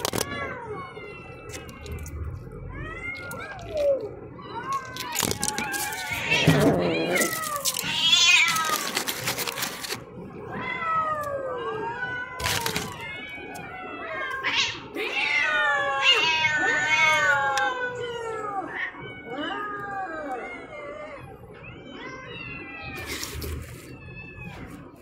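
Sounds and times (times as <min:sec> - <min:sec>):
cats meowing: 0:00.0 - 0:25.0.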